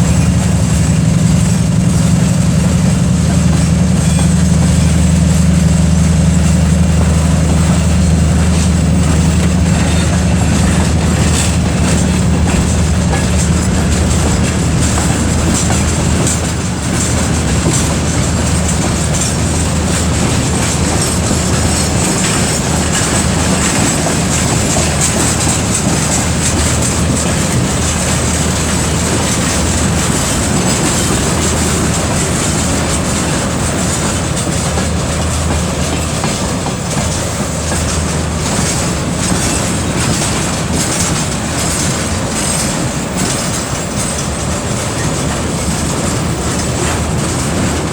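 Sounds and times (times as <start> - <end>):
diesel engine drone: 0.0 - 41.5
wheels clacking on rail joints: 0.0 - 47.9.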